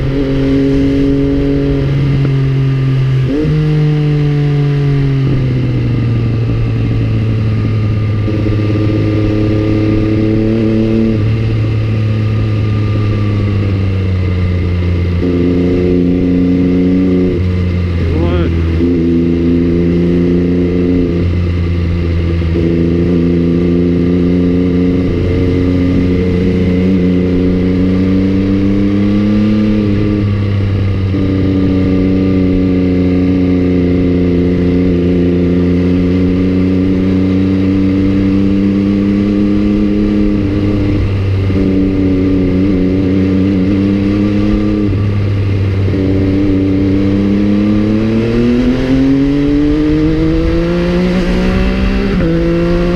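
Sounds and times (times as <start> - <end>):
motorcycle engine cruising: 0.0 - 52.9.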